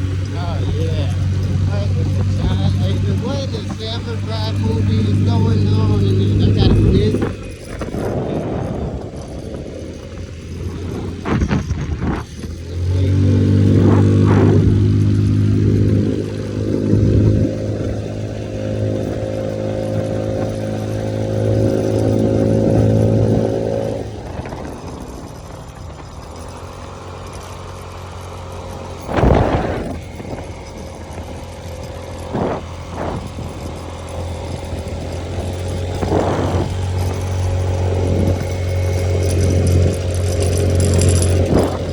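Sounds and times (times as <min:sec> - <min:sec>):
moped engine running: 0:00.0 - 0:41.9
road noise: 0:00.0 - 0:41.9.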